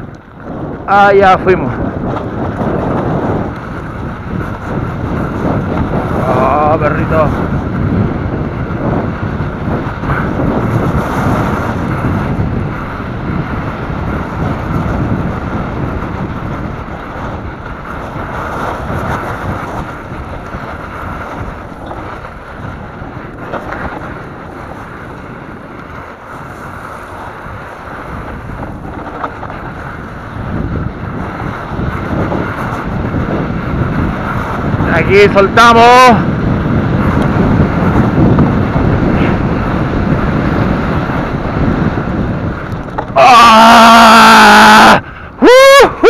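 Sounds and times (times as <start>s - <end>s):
bike tyres rattling over dirt: 0.0s - 46.0s
wind buffeting microphone: 0.0s - 46.0s.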